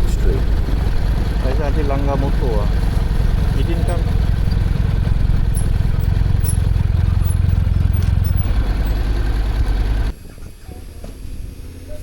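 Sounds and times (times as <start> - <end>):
motorcycle engine running low: 0.0 - 12.0.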